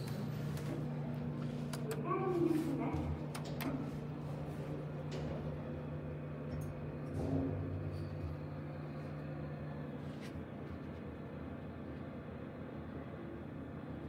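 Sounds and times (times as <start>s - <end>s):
elevator hum and rumble: 0.0s - 14.0s.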